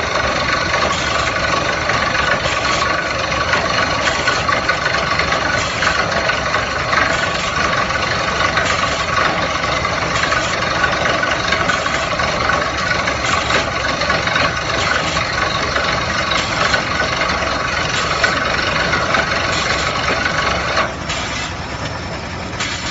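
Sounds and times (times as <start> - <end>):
drilling rig engine and machinery: 0.0 - 22.9.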